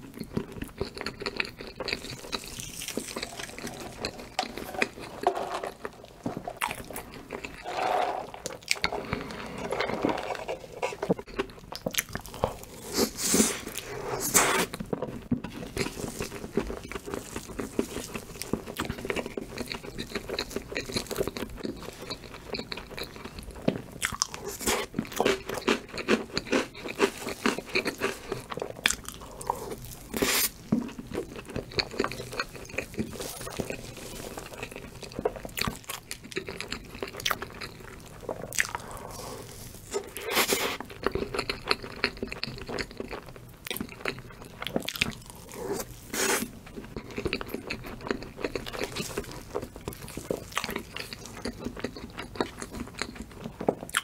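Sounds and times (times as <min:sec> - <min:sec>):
person chewing and crunching cake: 0:00.0 - 0:54.0.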